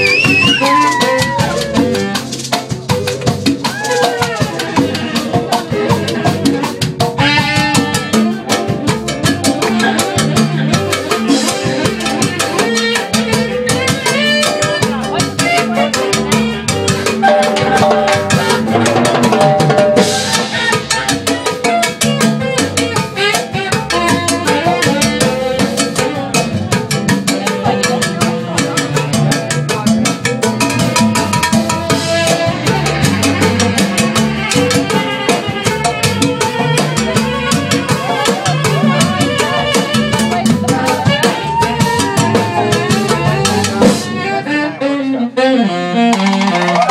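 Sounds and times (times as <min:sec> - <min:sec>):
drum kit: 0:00.0 - 0:46.9
hand percussion: 0:00.0 - 0:46.9
saxophone: 0:00.0 - 0:46.9.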